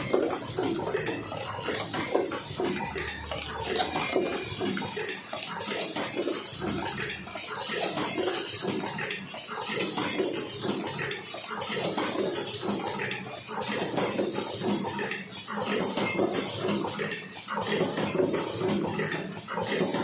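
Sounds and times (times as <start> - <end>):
machine mechanism clattering: 0.0 - 20.0.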